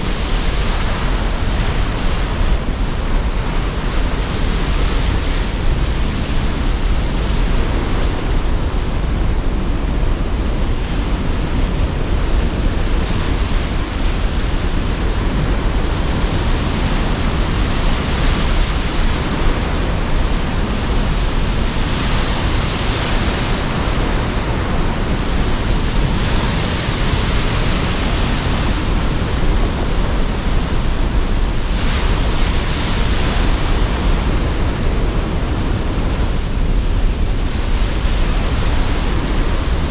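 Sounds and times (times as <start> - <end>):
strong wind: 0.0 - 39.9
surf low rumble: 0.0 - 39.9
waves washing in: 0.0 - 39.9.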